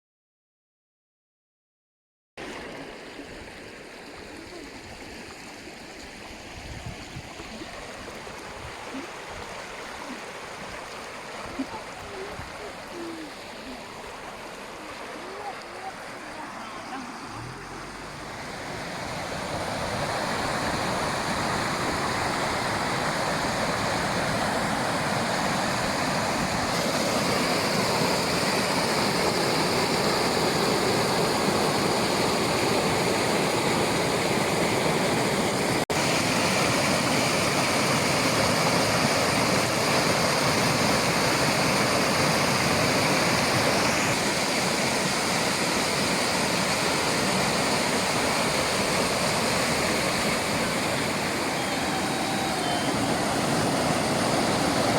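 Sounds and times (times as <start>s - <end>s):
waterfall rushing: 2.4s - 54.9s.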